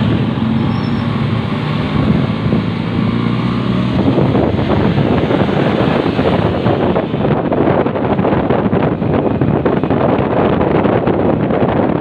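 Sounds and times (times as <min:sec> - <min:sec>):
low engine hum: 0:00.0 - 0:12.0
wind rushing over microphone: 0:00.0 - 0:12.0.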